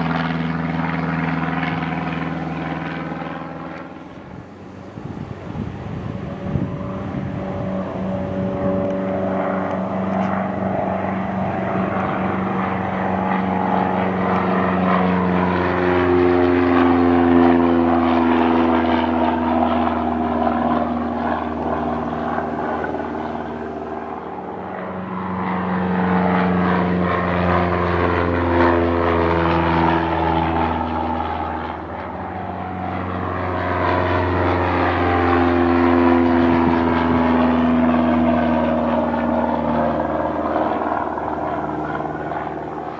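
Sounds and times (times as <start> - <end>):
propeller airplane droning: 0.0 - 42.9.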